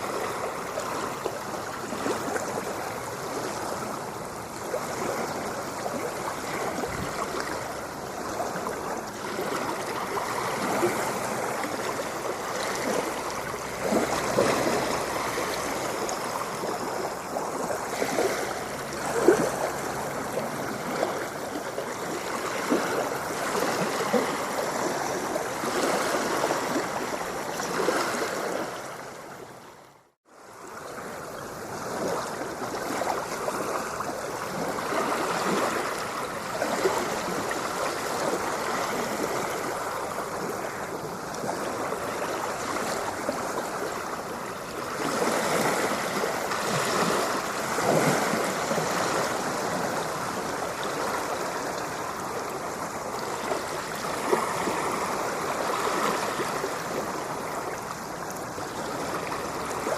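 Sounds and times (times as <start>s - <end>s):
ocean water lapping: 0.0s - 59.9s
water splashes: 0.0s - 59.9s.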